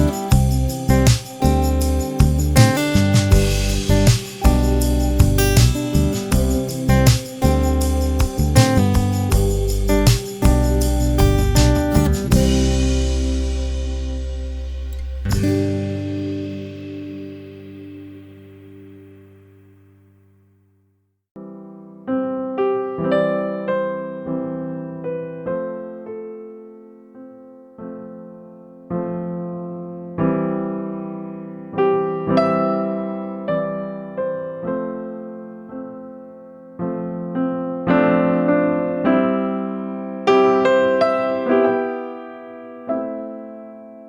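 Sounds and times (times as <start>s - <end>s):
soft piano music: 0.0s - 19.7s, 21.4s - 44.0s.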